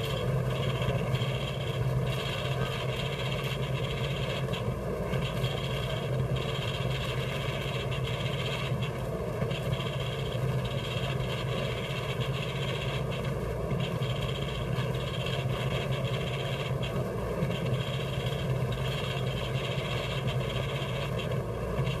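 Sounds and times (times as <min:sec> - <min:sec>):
steady mechanical drone: 0:00.0 - 0:22.0.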